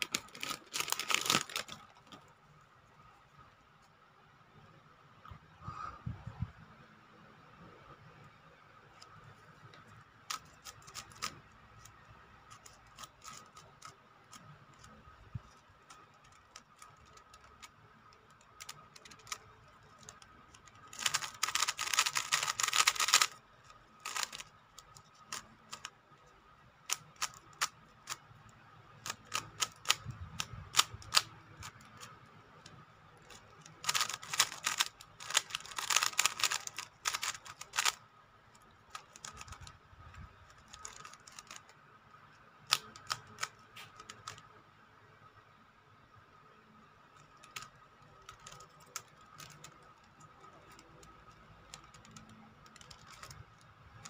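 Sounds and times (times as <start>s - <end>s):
speed cube turning clicks: 0.0s - 2.2s, 9.0s - 41.8s, 42.6s - 44.6s, 47.1s - 54.0s.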